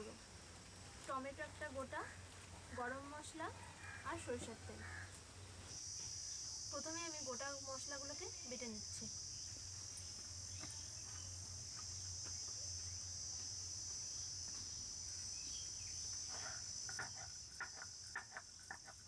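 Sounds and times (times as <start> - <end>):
insect chirring: 0.0 - 19.0.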